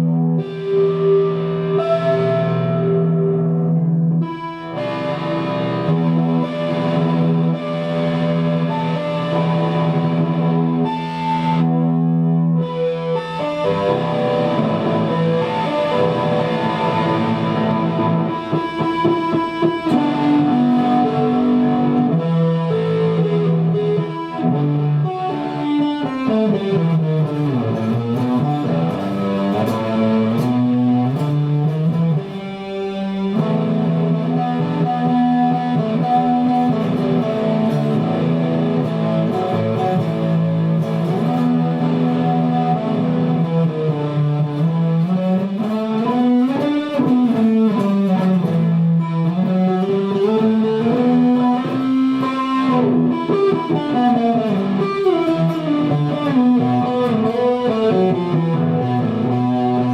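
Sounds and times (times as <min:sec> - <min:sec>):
guitar long held notes: 0:00.0 - 0:59.9.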